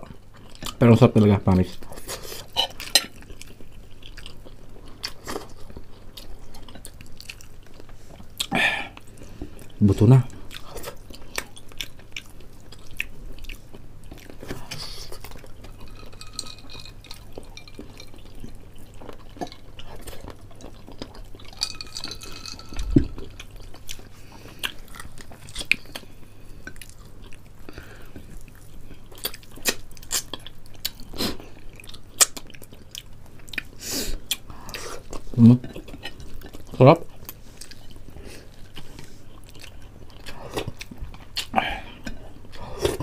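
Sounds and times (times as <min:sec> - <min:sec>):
chewing fried chicken: 0:00.0 - 0:43.0.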